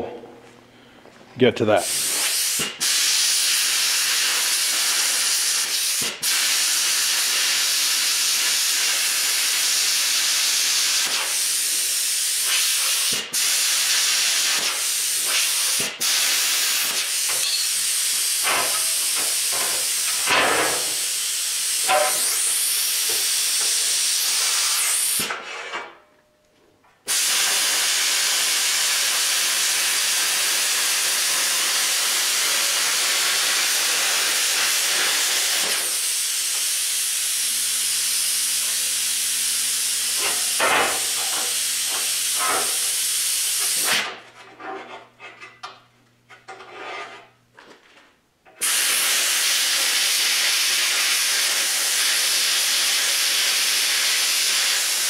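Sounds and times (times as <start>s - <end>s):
plasma cutter hissing: 1.8s - 25.4s, 27.1s - 44.1s, 48.6s - 55.0s.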